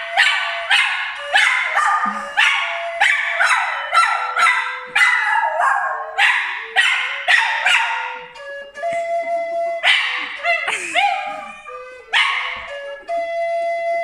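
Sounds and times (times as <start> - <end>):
dog barking and yipping: 0.0 - 8.4, 9.8 - 12.8
dog whining: 0.2 - 13.1.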